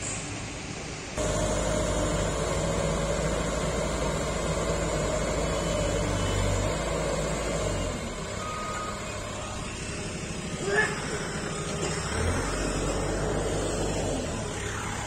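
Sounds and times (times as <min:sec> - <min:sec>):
backhoe engine running: 0:01.2 - 0:15.0.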